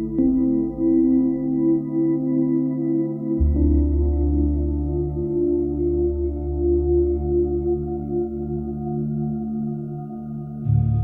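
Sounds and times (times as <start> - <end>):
calm ambient music: 0.0 - 11.0.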